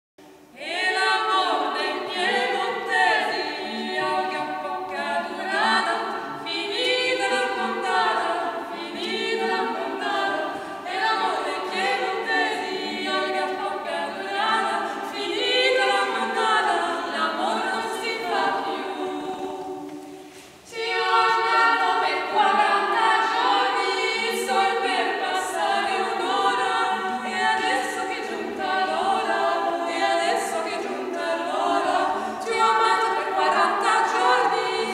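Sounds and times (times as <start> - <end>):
women singing a cappella: 0.3 - 34.9.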